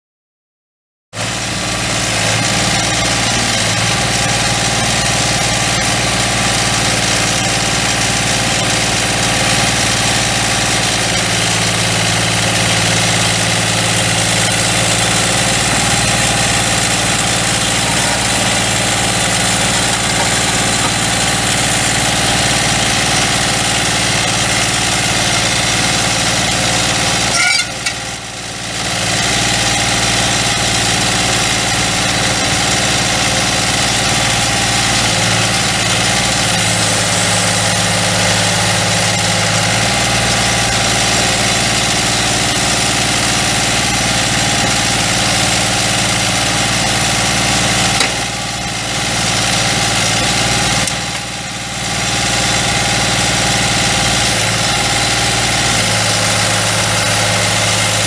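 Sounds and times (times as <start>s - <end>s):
diesel engine running: 1.2s - 58.0s.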